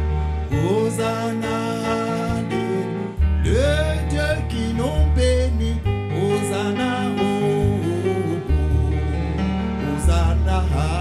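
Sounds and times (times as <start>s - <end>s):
instrumental accompaniment with deep bass: 0.0s - 11.0s
man singing gospel vocal runs: 0.5s - 11.0s.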